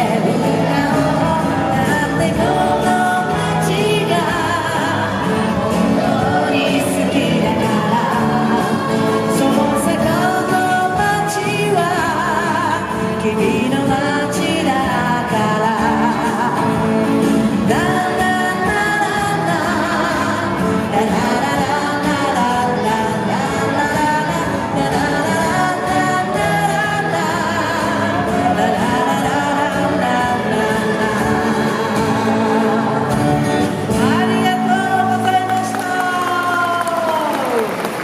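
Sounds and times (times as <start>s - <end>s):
pop song with sung vocals: 0.0s - 37.6s.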